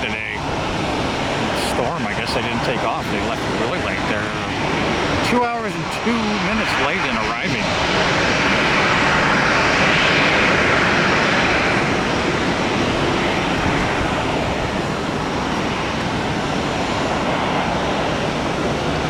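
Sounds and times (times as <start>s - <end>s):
jet airliner engine rushing: 0.0s - 19.0s.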